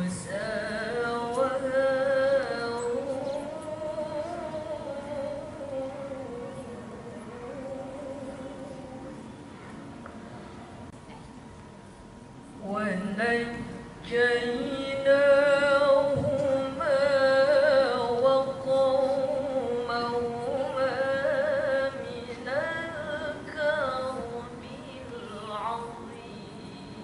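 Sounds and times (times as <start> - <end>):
woman chanting into a microphone: 0.0 - 9.3, 12.6 - 27.0.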